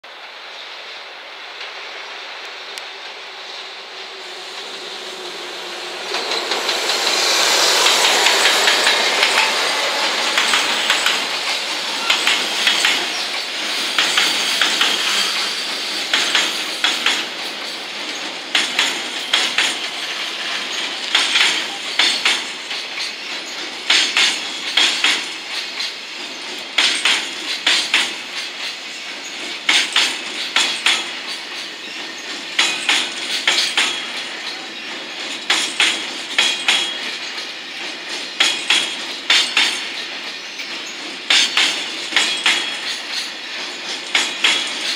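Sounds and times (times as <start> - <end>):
electric locomotive passing: 0.1 - 44.9
wagon wheels clicking over rail joints: 7.9 - 44.9.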